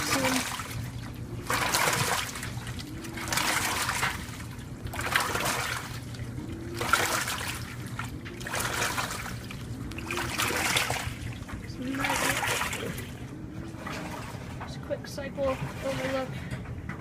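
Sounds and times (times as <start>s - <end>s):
faint motor whine: 0.0s - 17.0s
low motor hum: 0.0s - 17.0s
water and clothes sloshing: 0.0s - 17.0s.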